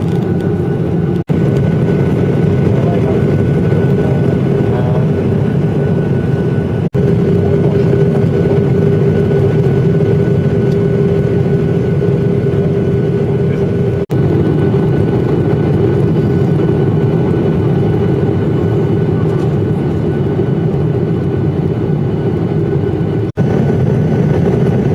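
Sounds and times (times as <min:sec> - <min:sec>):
airliner cabin engine drone: 0:00.0 - 0:24.9.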